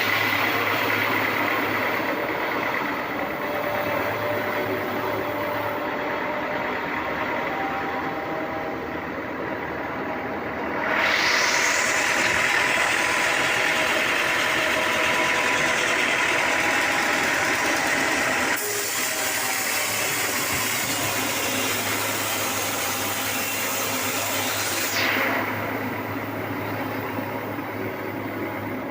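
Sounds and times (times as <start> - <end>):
sawmill machinery running: 0.0 - 28.9.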